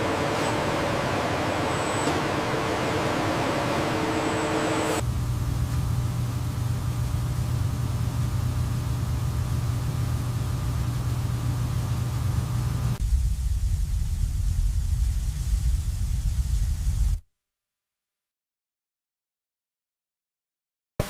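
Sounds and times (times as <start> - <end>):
low machine hum: 0.0 - 17.2.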